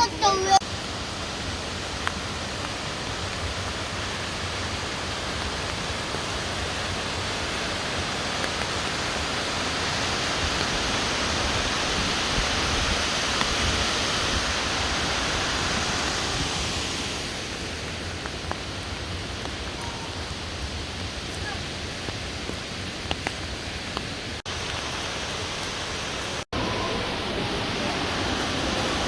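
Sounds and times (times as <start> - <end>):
waterfall rushing: 0.0 - 23.1, 23.8 - 29.0.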